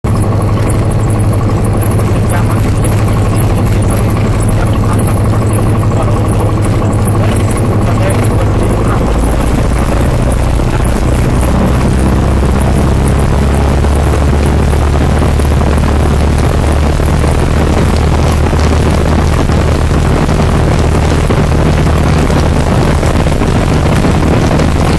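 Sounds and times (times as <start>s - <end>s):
propeller plane engine drone: 0.0s - 24.9s
wind noise: 0.0s - 24.9s.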